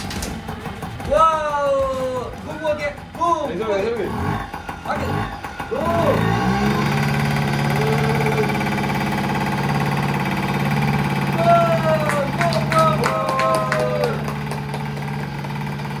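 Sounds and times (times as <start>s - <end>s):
small two-stroke engine idling: 0.0s - 16.0s.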